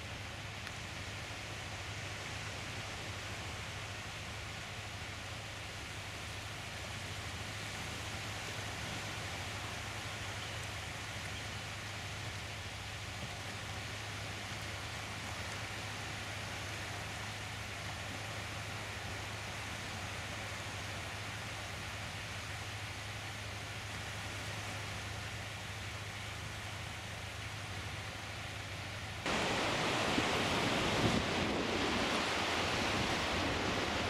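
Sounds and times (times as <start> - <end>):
surf washing onto beach: 0.0 - 34.0.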